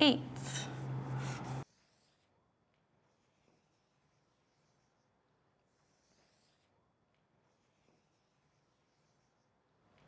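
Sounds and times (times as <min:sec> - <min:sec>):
marker writing on paper: 0:00.3 - 0:10.0.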